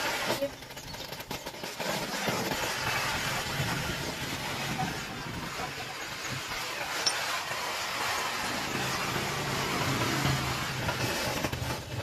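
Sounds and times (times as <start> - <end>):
welding torch flame hissing: 0.0 - 12.0.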